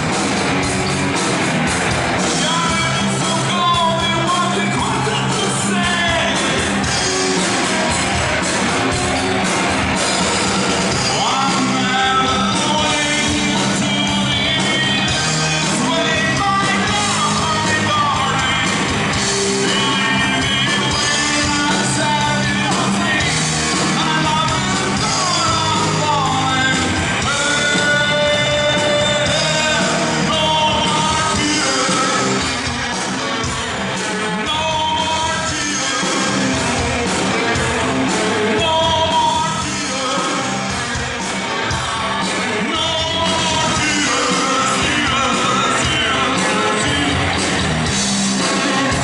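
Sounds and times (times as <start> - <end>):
rock band playing live: 0.0 - 49.0
person singing: 2.2 - 49.0.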